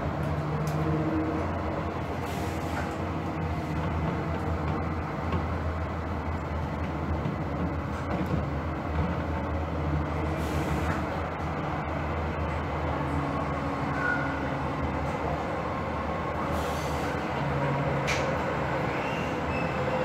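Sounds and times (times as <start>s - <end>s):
light-rail car motor hum: 0.0s - 20.0s.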